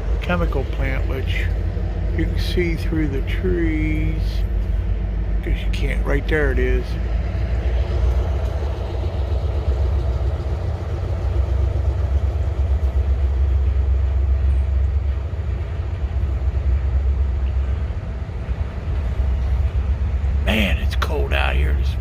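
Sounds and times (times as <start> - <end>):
diesel locomotive engine running: 0.0 - 22.0
freight train passing: 0.0 - 22.0.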